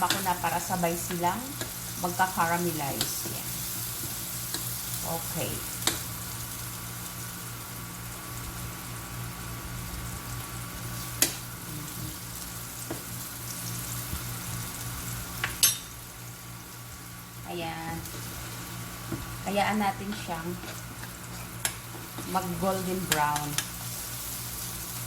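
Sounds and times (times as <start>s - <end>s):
garlic and onion sizzling in oil: 0.0s - 25.0s.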